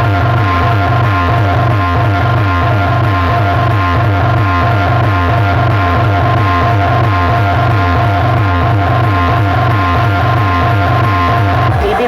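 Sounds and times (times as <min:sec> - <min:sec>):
loud music with heavy bass: 0:00.0 - 0:12.0.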